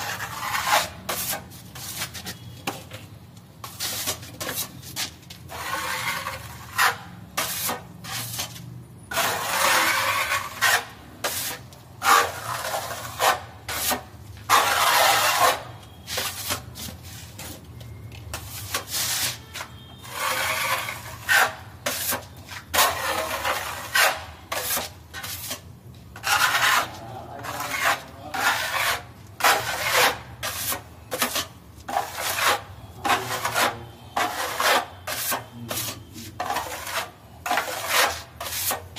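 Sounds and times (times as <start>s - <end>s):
putty blade scraping plaster wall: 0.0s - 2.4s, 5.5s - 16.7s, 18.7s - 25.6s, 26.2s - 38.9s.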